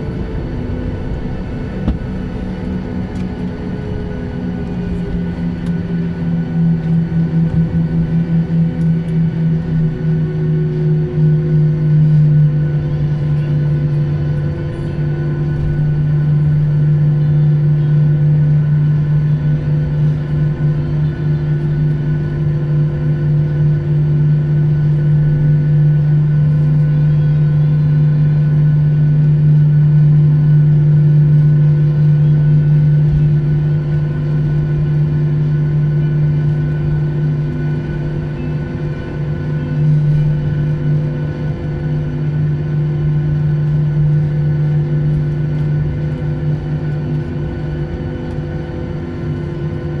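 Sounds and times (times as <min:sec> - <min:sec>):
jet engines and cabin air drone: 0:00.0 - 0:50.0.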